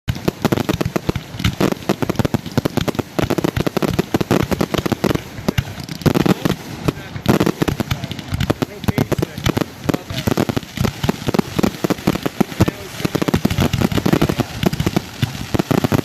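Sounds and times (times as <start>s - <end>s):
rapid fireworks bangs: 0.1s - 16.0s.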